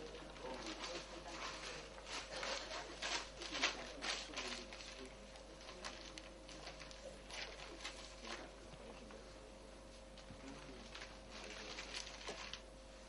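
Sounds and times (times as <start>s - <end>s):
soft rustling and scraping: 0.0s - 12.7s
faint voices: 0.0s - 13.0s.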